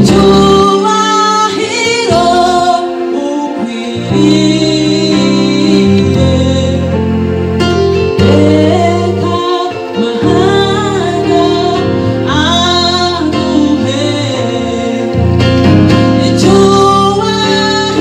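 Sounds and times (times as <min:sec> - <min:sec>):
woman singing with vibrato: 0:00.0 - 0:07.0, 0:08.2 - 0:15.4, 0:16.2 - 0:18.0
instrumental backing with bass: 0:00.0 - 0:18.0.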